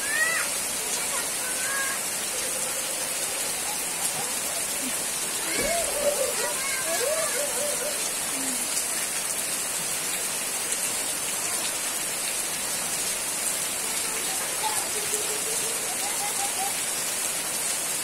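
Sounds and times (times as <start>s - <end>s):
rain on leaves: 0.0s - 18.0s
rain splashing into water: 0.0s - 18.0s.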